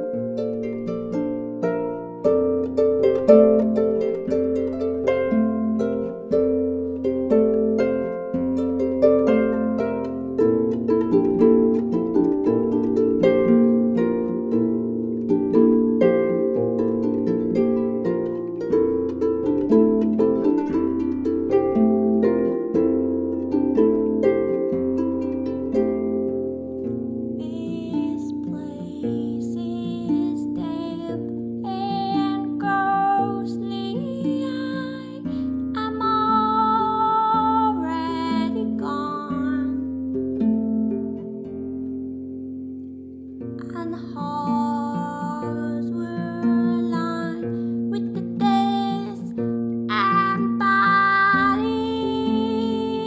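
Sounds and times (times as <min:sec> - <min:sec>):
plucked notes: 0:00.0 - 0:53.0.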